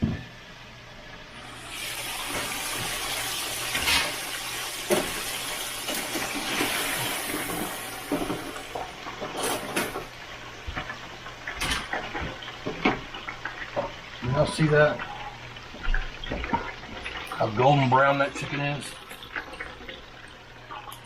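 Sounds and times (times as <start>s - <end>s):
hot oil sizzling: 1.2s - 21.0s.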